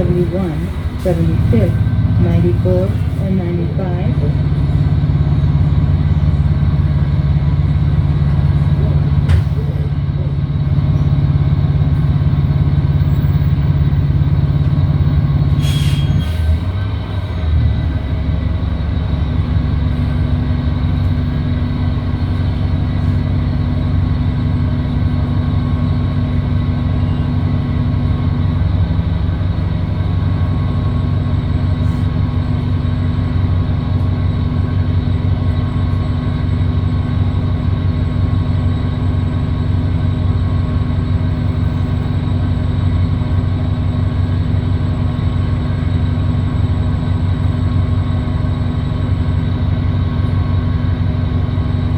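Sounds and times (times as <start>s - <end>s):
bus engine drone: 0.0s - 51.9s.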